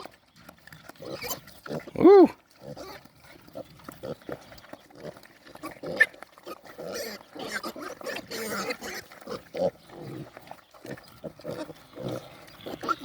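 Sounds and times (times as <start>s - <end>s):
piglets grunting and squealing: 0.0s - 13.0s.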